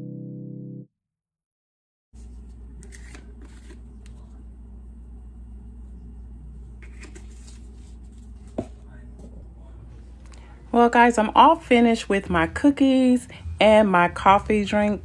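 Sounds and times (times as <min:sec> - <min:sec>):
steady low hum: 0:02.2 - 0:15.0.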